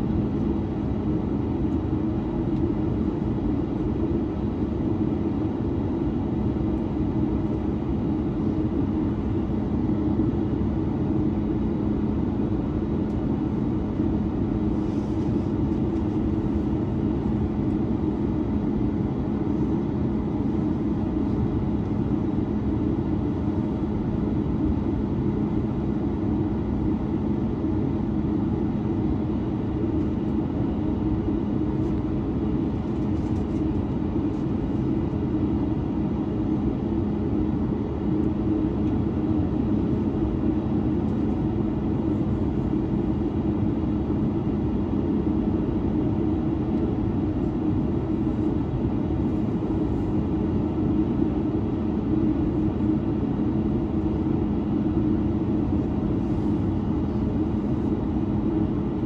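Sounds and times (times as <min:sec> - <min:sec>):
airplane cabin engine drone: 0:00.0 - 0:59.0.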